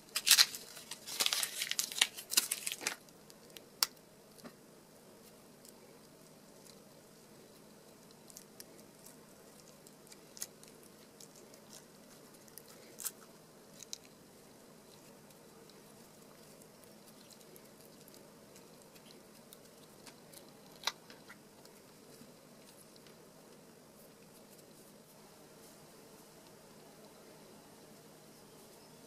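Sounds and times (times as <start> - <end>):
dried plaster crackling and snapping: 0.0 - 4.6, 5.2 - 25.1
faint steady hum: 0.0 - 29.0.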